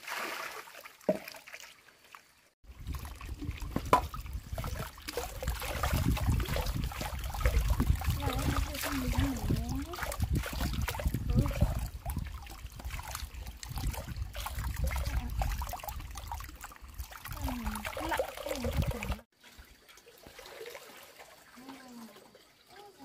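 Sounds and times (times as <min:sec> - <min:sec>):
water trickling and splashing: 0:00.0 - 0:23.0.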